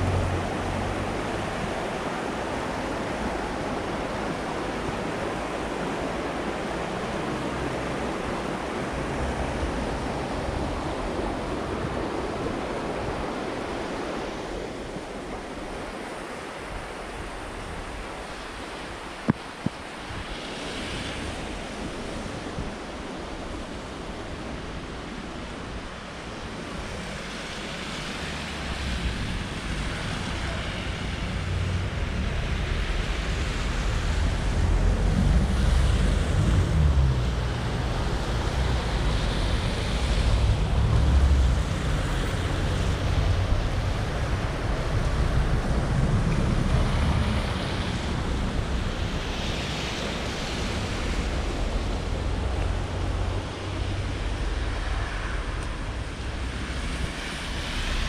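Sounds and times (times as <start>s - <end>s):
outdoor street noise: 0.0s - 58.0s
wind buffeting microphone: 0.0s - 58.0s.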